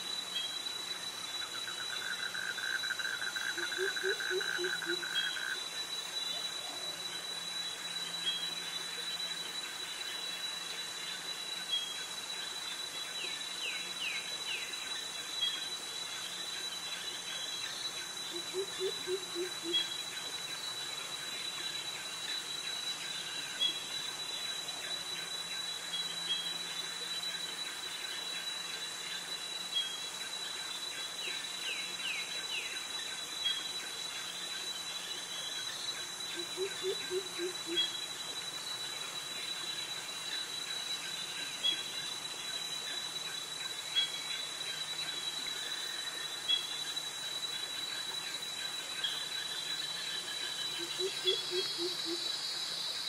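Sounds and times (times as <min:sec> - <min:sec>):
cicadas and crickets singing: 0:00.0 - 0:53.0.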